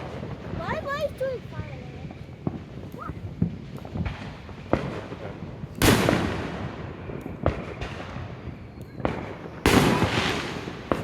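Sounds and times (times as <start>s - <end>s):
fireworks bangs: 0.0s - 11.0s
loud firework booms with echo: 0.0s - 11.0s.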